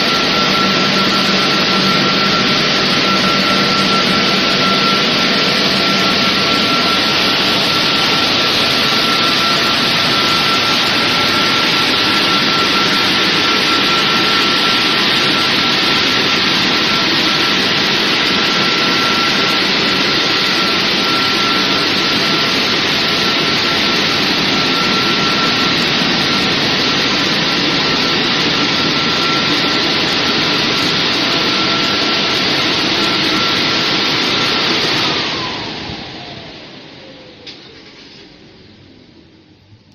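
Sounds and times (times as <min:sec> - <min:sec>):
air blowers rushing and whining: 0:00.0 - 0:39.0.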